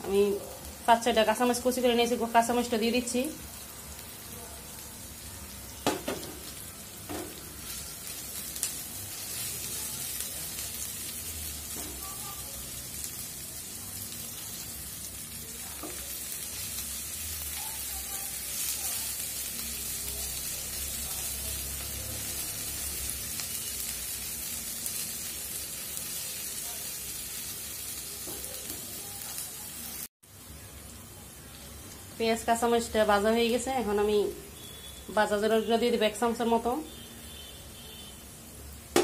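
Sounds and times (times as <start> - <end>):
onions sizzling in hot oil: 0.0 - 39.0.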